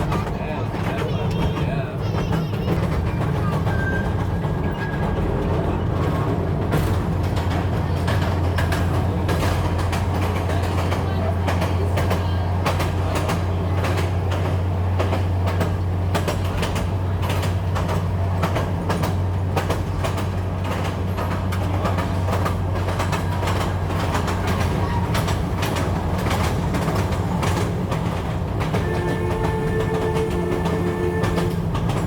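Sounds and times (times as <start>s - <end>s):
train rumbling on track: 0.0s - 32.0s
wheels rattling and clicking: 0.0s - 32.0s.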